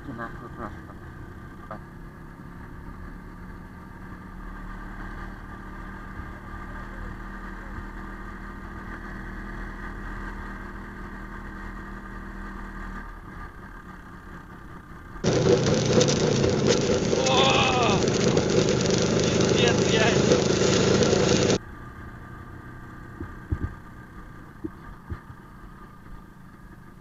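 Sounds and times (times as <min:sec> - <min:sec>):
two-stroke motorcycle engine running: 0:00.1 - 0:27.0.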